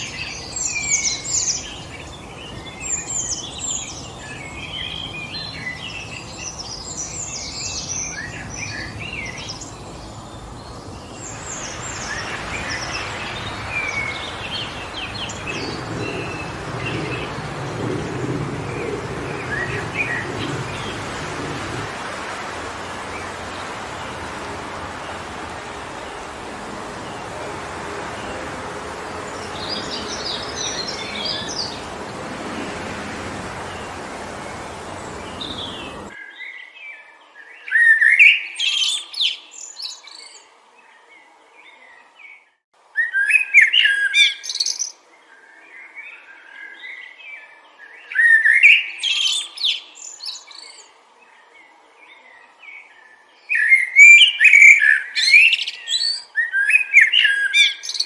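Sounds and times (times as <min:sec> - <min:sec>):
wind in trees: 0:00.0 - 0:58.0.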